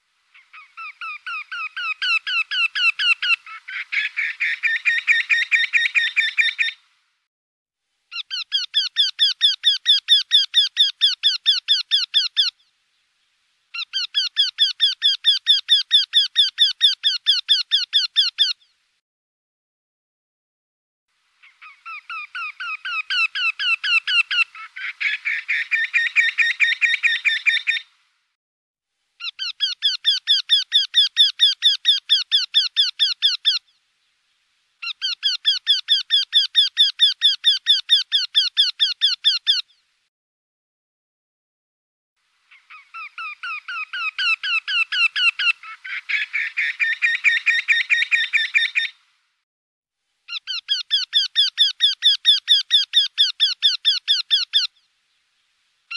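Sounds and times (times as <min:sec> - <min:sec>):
bird song of rapid repeated notes: 0:00.3 - 0:06.8, 0:08.1 - 0:18.8, 0:21.4 - 0:27.9, 0:29.2 - 0:39.9, 0:42.5 - 0:49.0, 0:50.3 - 0:55.9.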